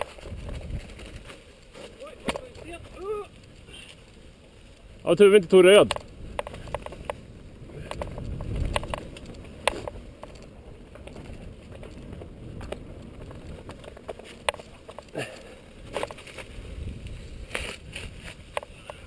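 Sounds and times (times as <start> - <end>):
bike clicking and rattling: 0.0 - 19.0
bike tyres rumbling on gravel: 0.0 - 19.0.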